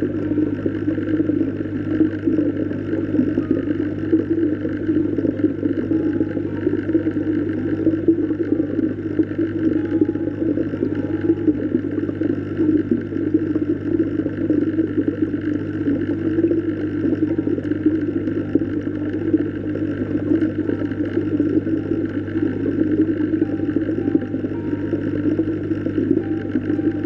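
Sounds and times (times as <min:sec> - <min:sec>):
low constant hum: 0:00.0 - 0:27.0
muffled underwater noise: 0:00.0 - 0:27.0.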